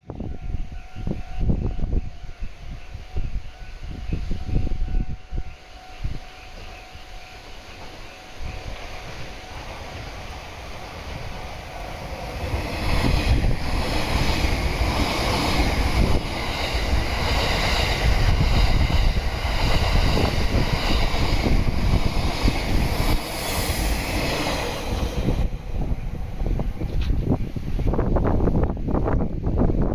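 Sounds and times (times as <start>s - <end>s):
train rumbling past: 0.0s - 29.9s
wind buffeting microphone: 0.0s - 29.9s.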